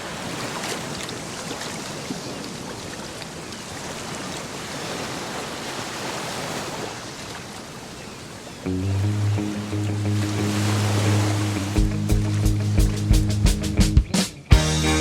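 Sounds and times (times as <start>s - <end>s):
ocean waves washing: 0.0s - 13.8s.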